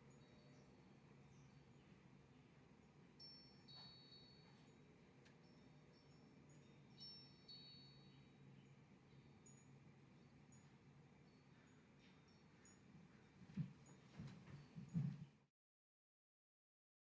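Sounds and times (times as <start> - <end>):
faint steady hum: 0.0 - 15.4.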